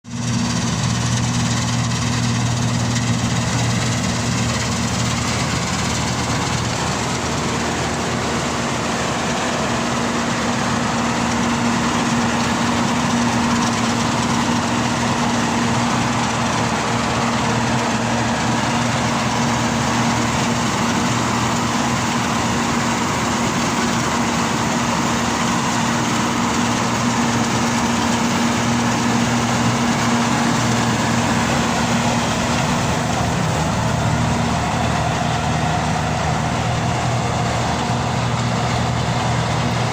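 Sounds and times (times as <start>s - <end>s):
harvester engine humming: 0.1s - 39.9s.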